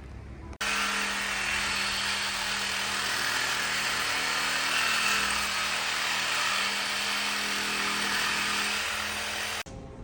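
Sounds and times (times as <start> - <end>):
power tool cutting metal pipe: 0.6 - 9.7.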